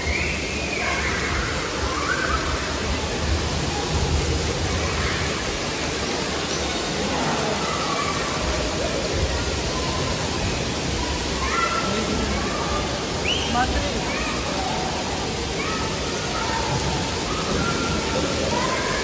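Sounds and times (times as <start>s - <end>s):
faint children's voices: 0.0s - 19.0s
water jets spraying onto tiles: 0.0s - 19.0s.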